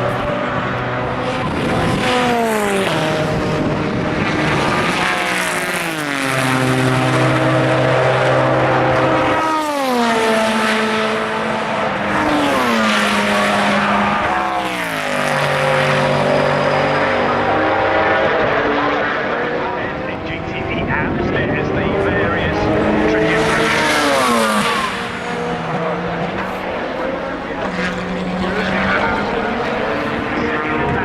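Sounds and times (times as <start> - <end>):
race cars passing: 0.0 - 31.0.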